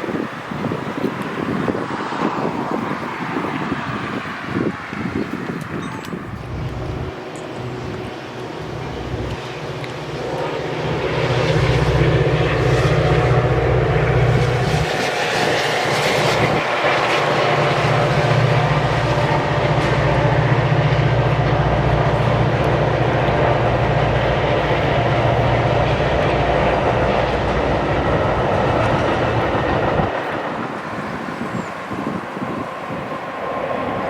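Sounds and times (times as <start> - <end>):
locomotive engine drone: 0.0 - 34.0
train wheels rolling on rails: 0.0 - 34.0.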